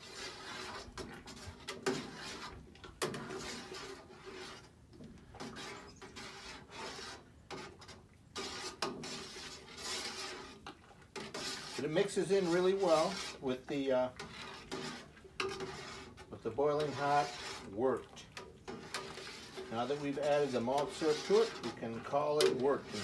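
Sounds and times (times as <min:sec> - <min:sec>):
spoon scraping metal kettle: 0:00.0 - 0:23.0.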